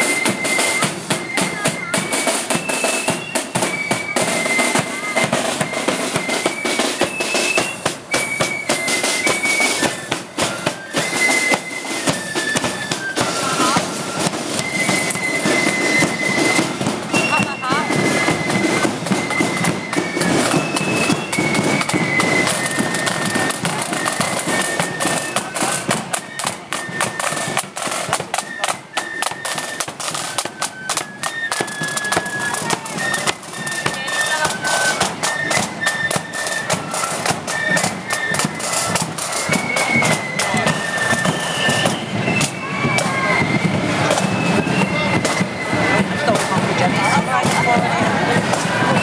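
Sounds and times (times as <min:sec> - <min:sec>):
drums: 0:00.0 - 0:49.0
flute band melody: 0:00.0 - 0:49.0.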